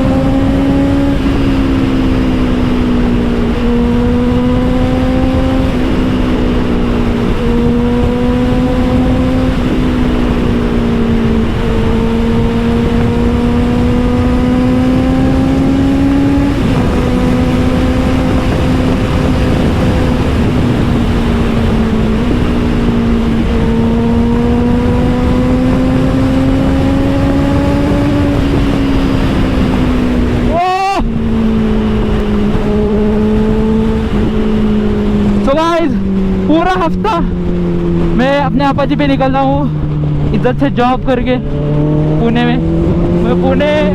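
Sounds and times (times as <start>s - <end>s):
motorcycle engine with gear changes: 0.0s - 43.9s.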